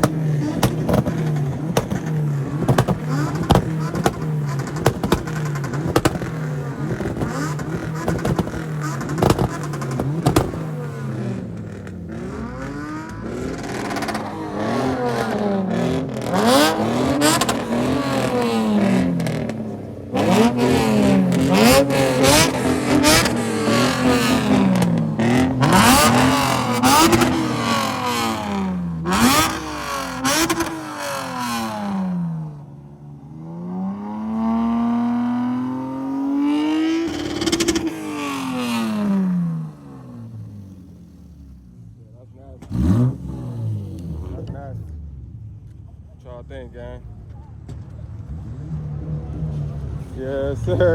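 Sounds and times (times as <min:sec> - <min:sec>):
car engine revving: 0:00.0 - 0:50.9
exhaust cracks: 0:00.0 - 0:50.9.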